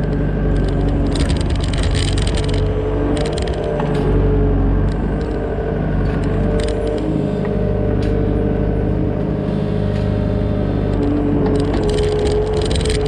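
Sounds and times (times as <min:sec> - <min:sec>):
excavator engine running: 0:00.0 - 0:13.0
machine clicks and knocks: 0:00.0 - 0:13.0.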